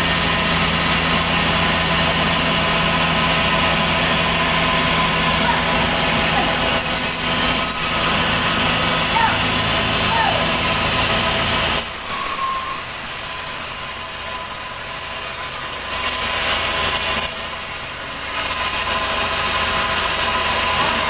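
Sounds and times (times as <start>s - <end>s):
sawmill machinery humming: 0.0s - 21.0s.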